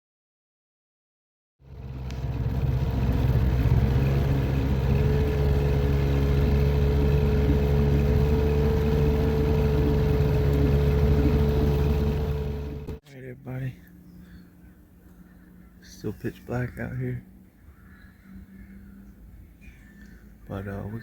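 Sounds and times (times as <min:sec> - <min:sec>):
outboard motor running: 0:01.6 - 0:13.0, 0:13.9 - 0:20.8.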